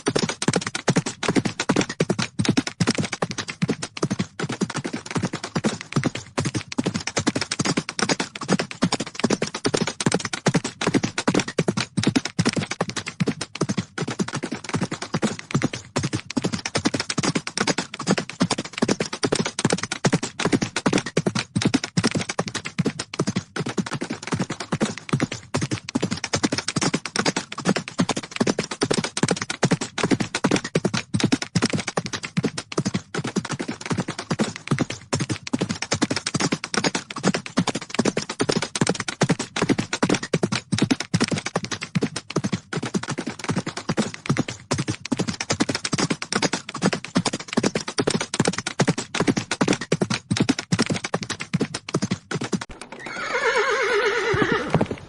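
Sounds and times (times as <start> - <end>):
horses galloping: 0.0 - 55.0.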